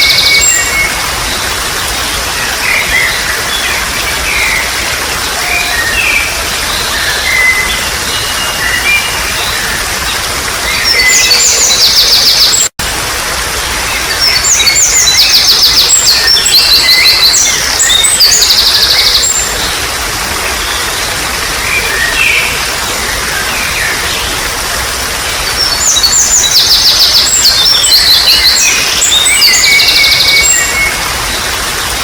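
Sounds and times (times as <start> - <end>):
birds chirping: 0.0 - 12.7, 13.7 - 32.0
water trickling: 0.0 - 32.0.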